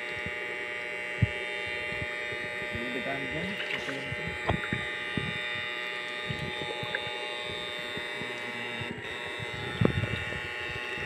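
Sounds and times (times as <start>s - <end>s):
small motor humming with whine: 0.0s - 11.0s.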